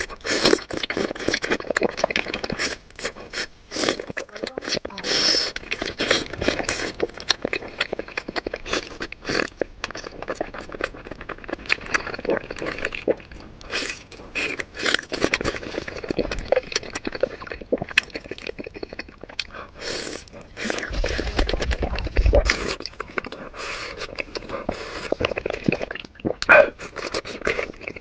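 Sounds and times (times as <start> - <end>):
chewing and crunching meat: 0.0 - 28.0.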